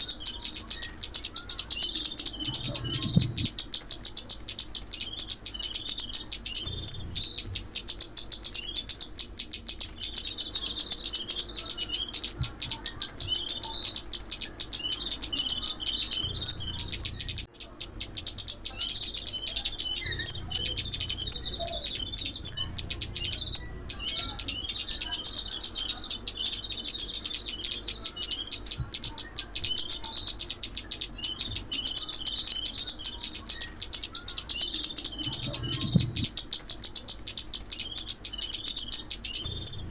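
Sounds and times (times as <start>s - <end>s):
high-pitched bird twittering: 0.0s - 39.9s.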